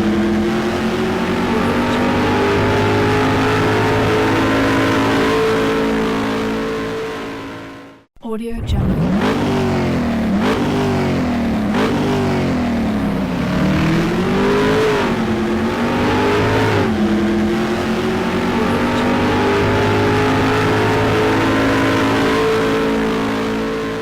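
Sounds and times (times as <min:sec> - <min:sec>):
car engine accelerating: 0:00.0 - 0:08.1, 0:08.7 - 0:24.0.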